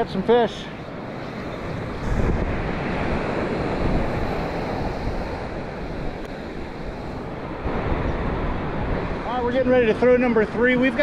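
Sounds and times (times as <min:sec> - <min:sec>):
wind buffeting microphone: 0:00.0 - 0:11.0
surf breaking on beach: 0:01.0 - 0:11.0.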